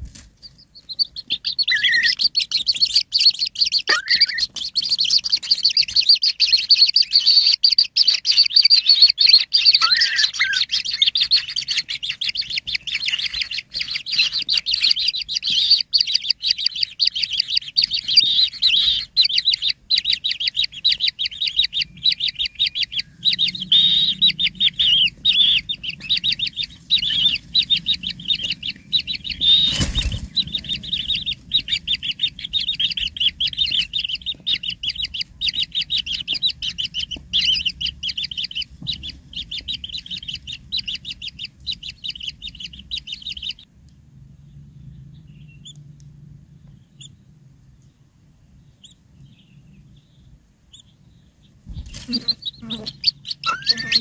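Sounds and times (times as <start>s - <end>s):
nestlings high-pitched chirping: 0.0s - 43.7s, 45.1s - 45.9s, 46.6s - 47.3s, 48.6s - 54.0s.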